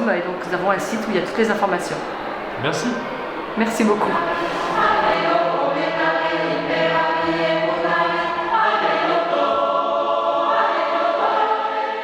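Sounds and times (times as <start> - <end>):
choir singing held chords: 1.9 - 12.0.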